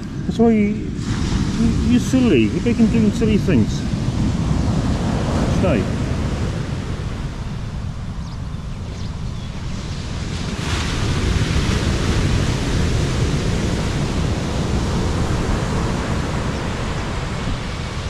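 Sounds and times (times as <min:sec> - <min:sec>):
wind buffeting microphone: 0:00.0 - 0:18.0
surf breaking on beach: 0:00.4 - 0:07.8, 0:09.6 - 0:18.0.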